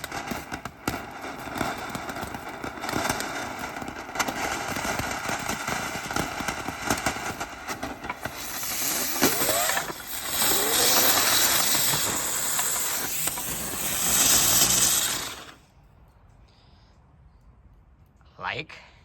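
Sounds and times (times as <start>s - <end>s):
firework hissing: 0.0s - 15.6s.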